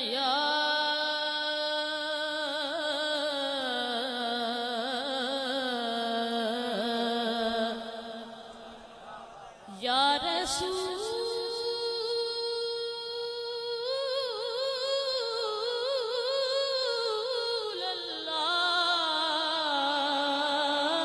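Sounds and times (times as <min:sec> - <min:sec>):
boy singing: 0:00.0 - 0:08.7, 0:09.7 - 0:21.0.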